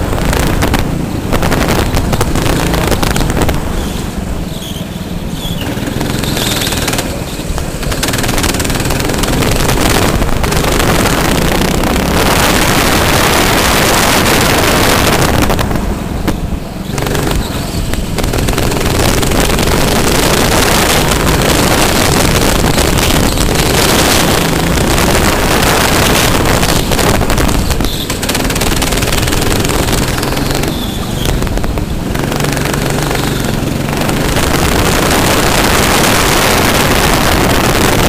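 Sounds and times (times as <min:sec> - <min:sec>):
wind noise on microphone: 0:00.0 - 0:04.9, 0:05.6 - 0:38.0
go-kart engine running hard: 0:00.0 - 0:38.0.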